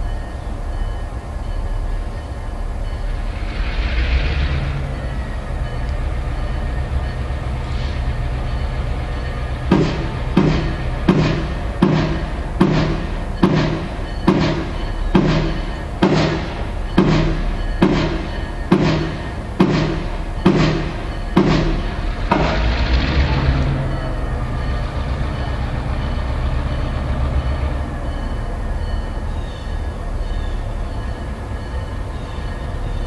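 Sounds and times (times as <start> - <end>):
diesel locomotive rumbling: 0.0 - 33.0
locomotive bell ringing: 0.0 - 33.0.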